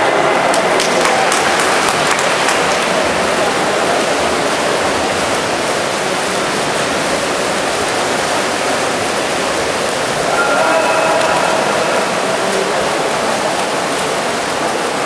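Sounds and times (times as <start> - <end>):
swimmers splashing water: 0.0 - 15.0.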